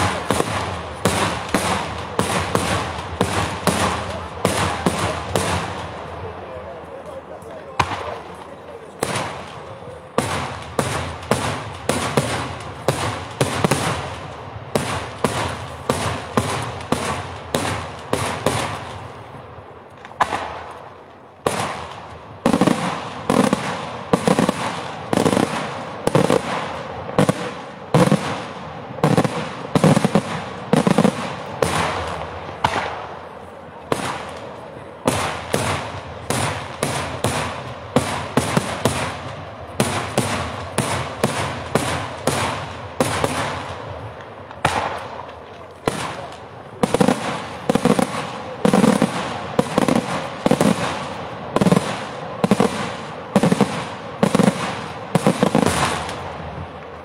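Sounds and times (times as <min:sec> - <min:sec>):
deep firework booms: 0:00.0 - 0:06.3, 0:07.7 - 0:19.4, 0:20.1 - 0:56.8.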